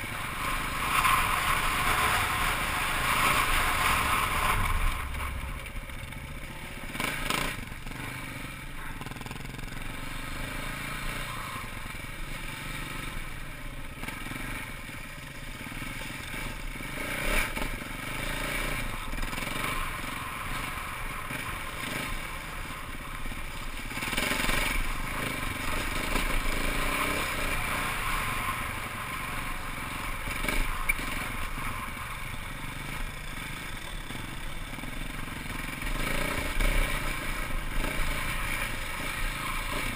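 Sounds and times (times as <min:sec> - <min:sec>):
dirt bike engine running: 0:00.0 - 0:39.9
rattle of riding over ground: 0:00.0 - 0:39.9.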